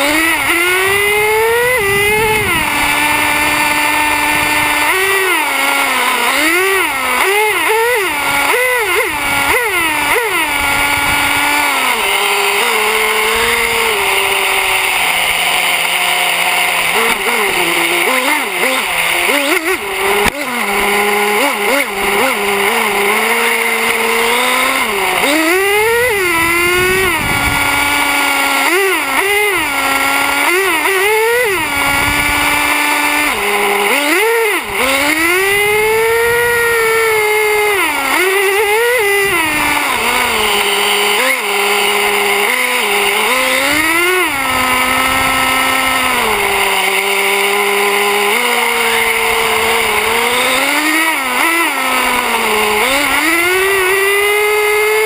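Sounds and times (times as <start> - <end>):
model truck engine revving: 0.0 - 55.0.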